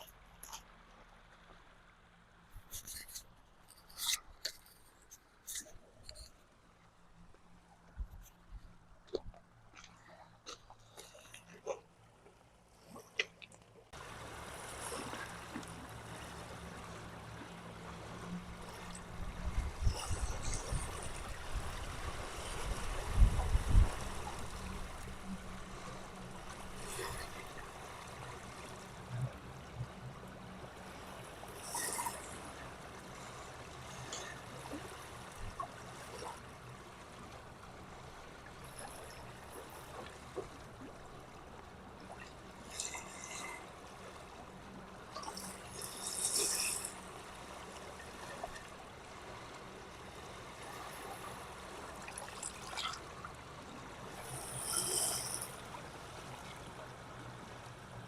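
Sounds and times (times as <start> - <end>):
water lapping and trickling: 0.0 - 58.0
water splashes: 0.0 - 58.0.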